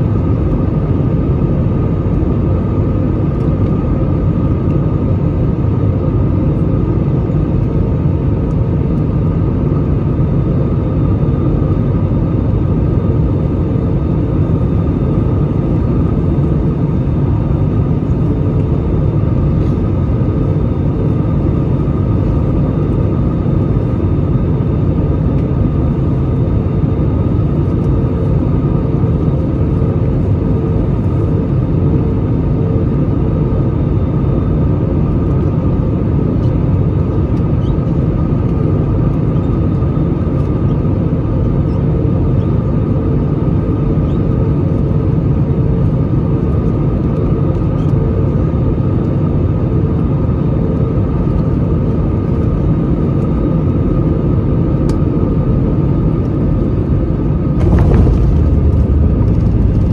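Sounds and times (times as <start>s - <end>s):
aircraft cabin roar: 0.0s - 59.9s.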